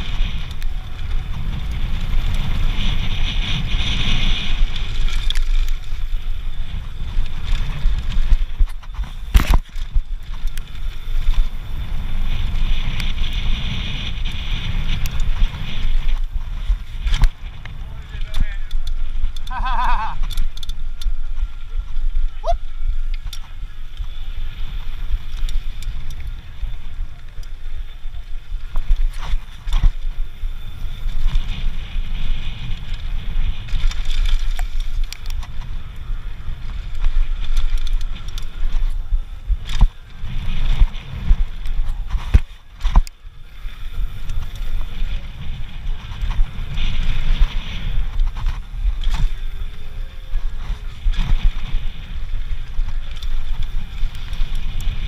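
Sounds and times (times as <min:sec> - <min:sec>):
bike rattles and knocks: 0:00.0 - 0:55.0
tyres rumbling on dirt and gravel: 0:00.0 - 0:55.0
wind buffeting microphone: 0:00.0 - 0:55.0.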